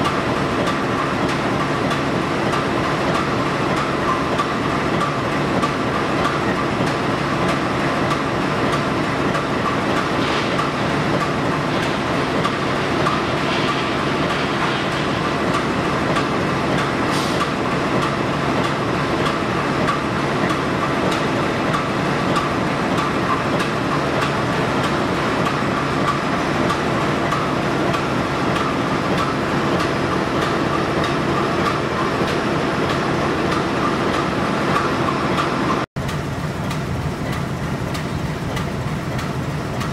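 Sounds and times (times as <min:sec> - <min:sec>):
diesel locomotive idling: 0:00.0 - 0:39.9.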